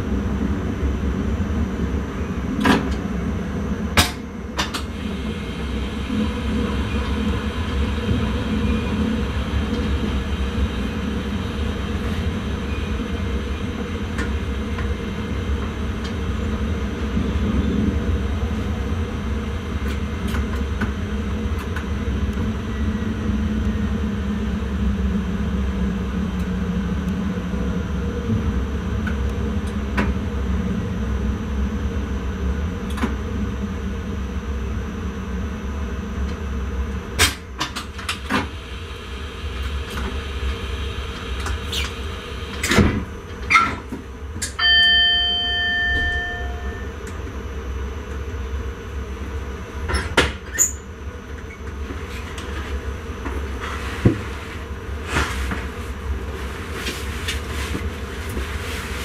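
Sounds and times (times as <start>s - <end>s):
train rumble from cab: 0.0s - 59.0s.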